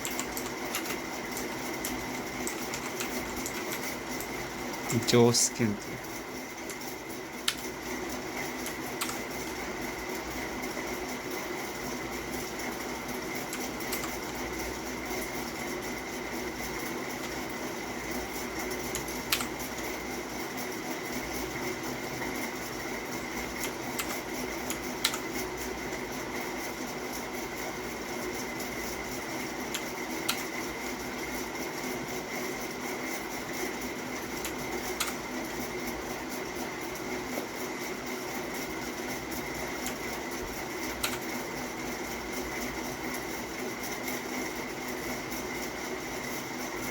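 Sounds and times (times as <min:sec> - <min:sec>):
mechanical hum with high tone: 0:00.0 - 0:46.9.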